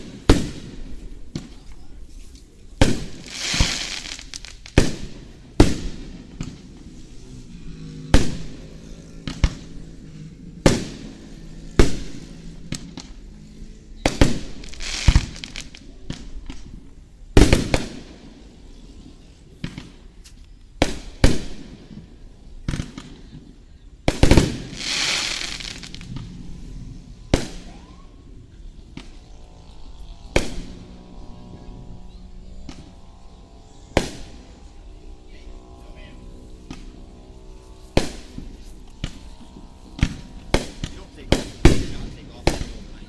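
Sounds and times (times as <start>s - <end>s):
firework hiss: 0.0s - 29.2s, 36.5s - 43.0s
fireworks bursting: 0.0s - 31.6s, 32.6s - 35.4s, 36.5s - 43.0s.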